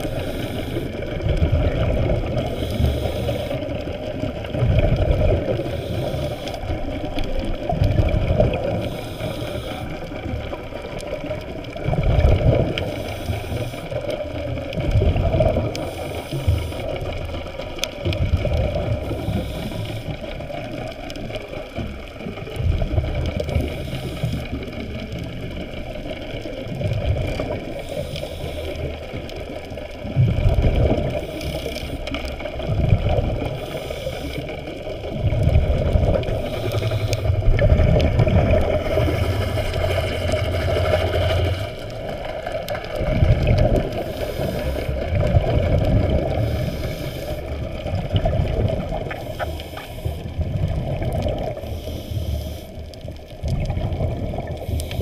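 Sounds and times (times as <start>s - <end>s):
low whooshing water surges: 0.0s - 55.0s
muffled underwater hum: 0.0s - 55.0s.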